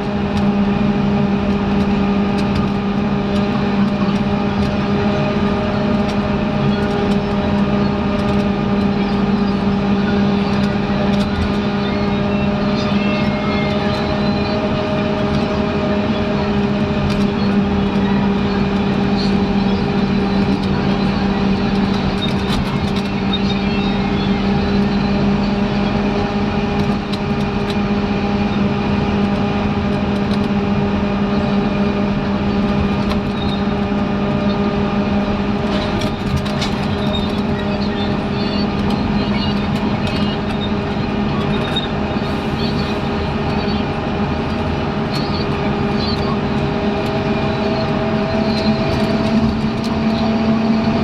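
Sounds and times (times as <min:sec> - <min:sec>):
bus diesel engine droning: 0:00.0 - 0:51.0.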